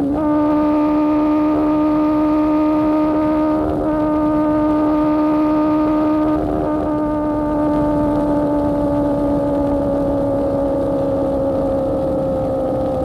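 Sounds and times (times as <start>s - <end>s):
motorcycle engine at high revs: 0.0s - 13.0s
wind rumble: 0.0s - 13.0s.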